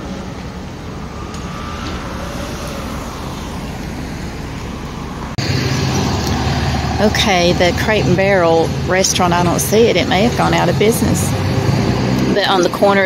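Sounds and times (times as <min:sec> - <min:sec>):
rumble of passing cars: 0:00.0 - 0:13.0.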